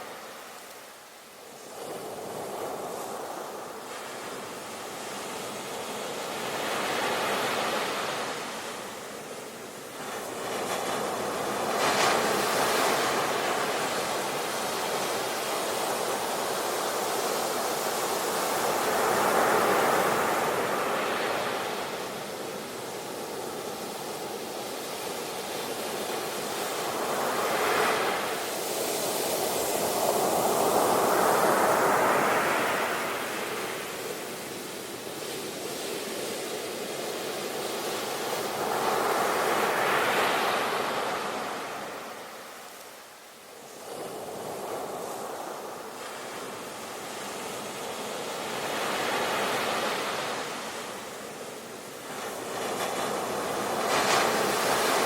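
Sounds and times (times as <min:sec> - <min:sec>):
ocean waves washing onto shore: 0:00.0 - 0:55.0.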